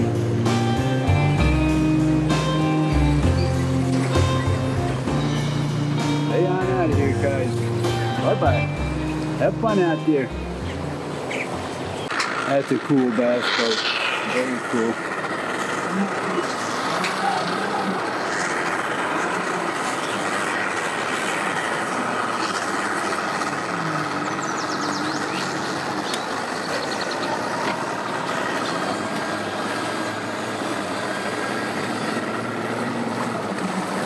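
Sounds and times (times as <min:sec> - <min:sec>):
outboard motor running: 0:00.0 - 0:34.0
propeller churning water: 0:00.0 - 0:34.0.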